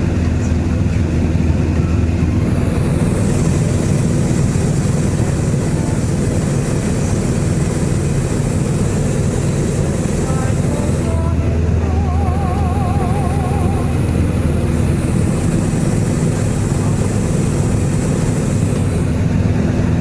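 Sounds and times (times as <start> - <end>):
aircraft engine and propeller drone: 0.0 - 20.0
rushing air: 0.0 - 20.0.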